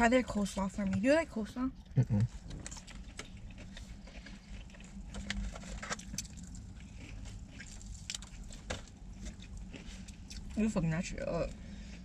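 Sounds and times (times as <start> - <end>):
low steady car cabin hum: 0.0 - 12.0
chewing: 1.8 - 12.0.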